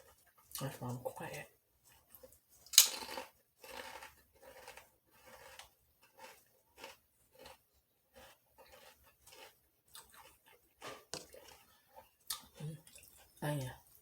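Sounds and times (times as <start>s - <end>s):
chewing food: 0.0s - 14.0s.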